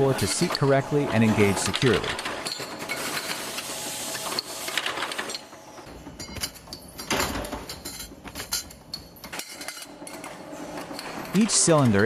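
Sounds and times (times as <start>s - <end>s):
metalworking machine clatter: 0.0s - 12.0s.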